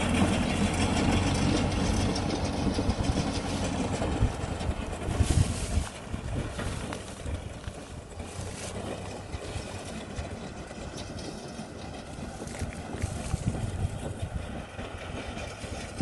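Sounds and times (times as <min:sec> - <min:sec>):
straw baler working: 0:00.0 - 0:16.0
tractor diesel engine running: 0:00.0 - 0:16.0.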